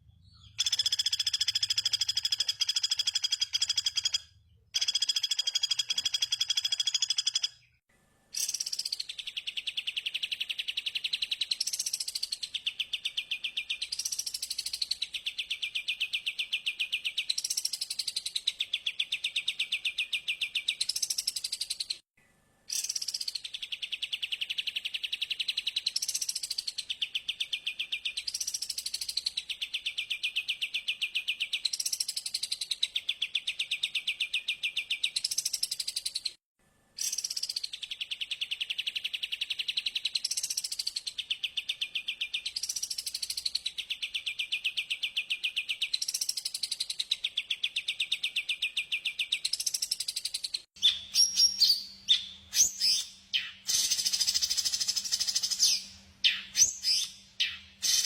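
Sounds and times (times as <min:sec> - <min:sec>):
recorded songbird call: 0:00.0 - 0:22.0, 0:22.7 - 0:36.4, 0:37.0 - 0:58.0.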